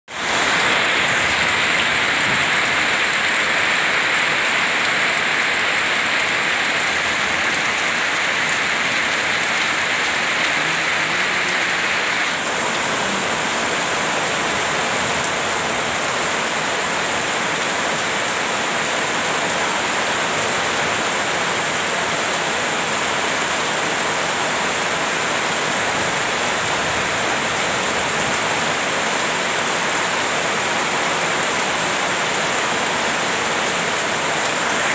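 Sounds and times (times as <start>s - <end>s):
heavy rain: 0.1s - 34.9s
water streaming off roof: 0.1s - 34.9s.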